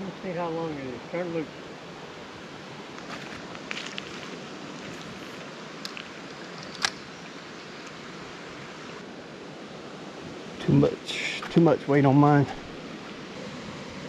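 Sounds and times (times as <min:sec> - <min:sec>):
creek water over rocks: 0:00.0 - 0:14.0.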